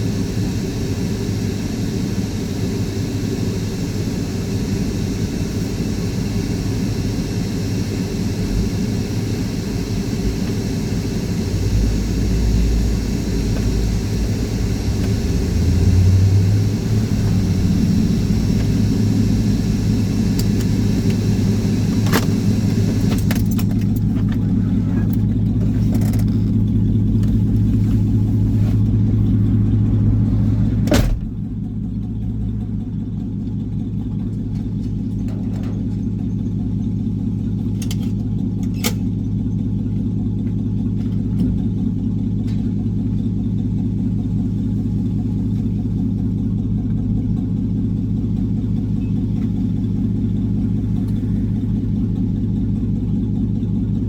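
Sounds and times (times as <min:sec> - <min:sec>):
engine and road drone: 0:00.0 - 0:54.0.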